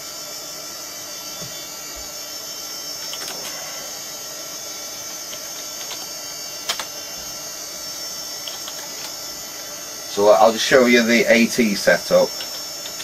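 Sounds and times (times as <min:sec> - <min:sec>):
computer fans and hard drive hum: 0:00.0 - 0:13.0.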